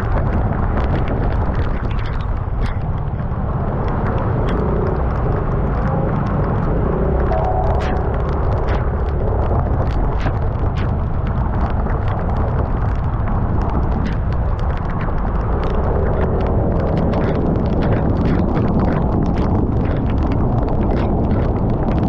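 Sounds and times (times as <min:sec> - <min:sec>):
raindrops ticking on microphone: 0:00.0 - 0:22.0
wind buffeting microphone: 0:00.0 - 0:22.0.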